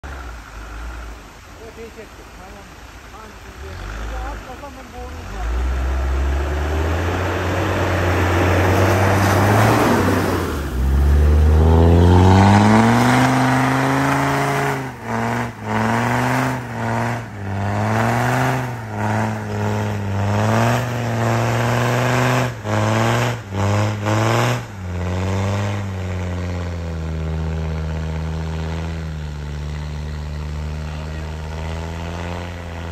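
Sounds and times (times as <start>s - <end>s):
diesel engine revving: 0.0s - 32.9s.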